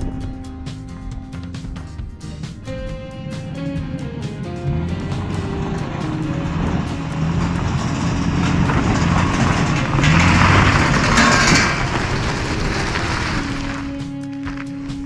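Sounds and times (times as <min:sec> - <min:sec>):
tyre and road rush: 0:00.0 - 0:15.0
vehicle engine drone: 0:00.0 - 0:15.0.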